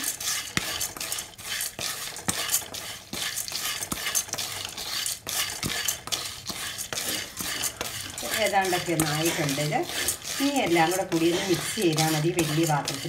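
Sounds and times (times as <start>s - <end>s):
spatula stirring dry grains in pan: 0.0s - 13.0s.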